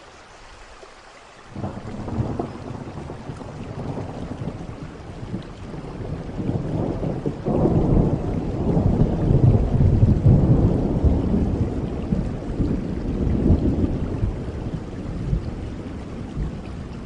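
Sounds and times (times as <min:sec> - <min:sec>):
steady rain: 0:00.0 - 0:17.0
rolling thunder: 0:01.6 - 0:17.0.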